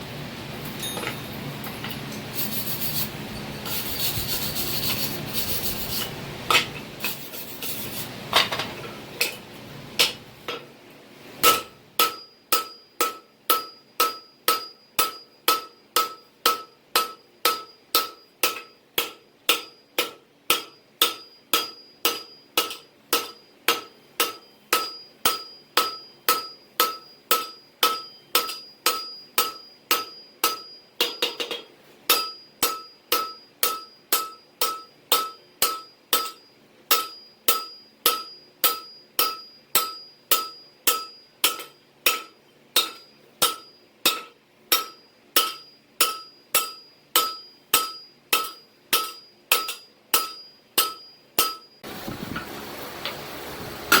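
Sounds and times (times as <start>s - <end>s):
hammer striking steel on anvil: 0.8s - 2.4s, 6.0s - 7.2s, 10.0s - 10.7s, 11.4s - 51.9s.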